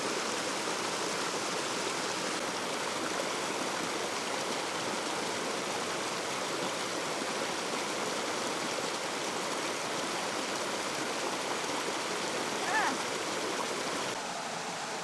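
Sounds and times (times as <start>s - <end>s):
rushing stream water: 0.0s - 15.0s.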